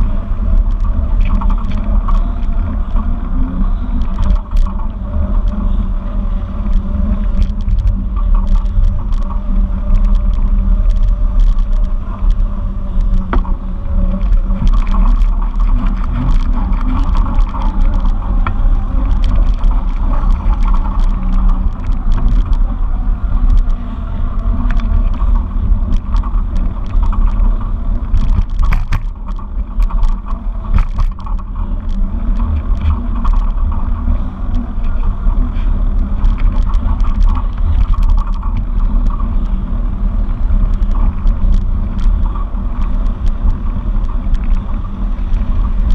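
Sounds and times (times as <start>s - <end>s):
small rattles and knocks: 0.0s - 5.8s, 6.4s - 45.9s
wind and road rumble: 0.0s - 45.9s.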